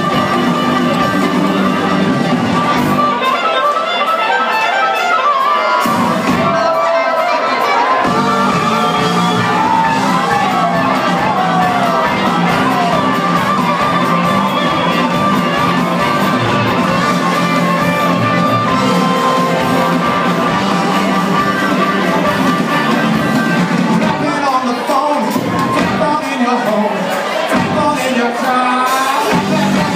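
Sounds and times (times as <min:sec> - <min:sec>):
harmonica: 0:00.0 - 0:24.1
blues-rock band playing: 0:00.0 - 0:29.9
crowd shouting: 0:00.0 - 0:29.9.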